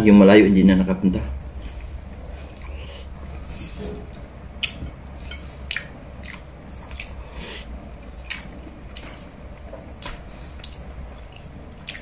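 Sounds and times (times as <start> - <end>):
person chewing with open mouth: 1.6 - 12.0.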